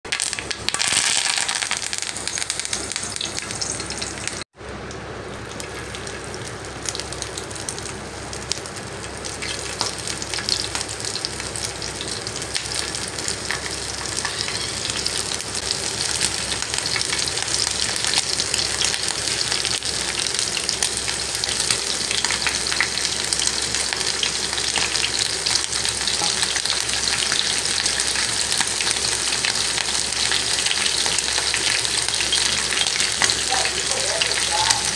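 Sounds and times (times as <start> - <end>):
prawns sizzling in hot oil: 0.1 - 34.9.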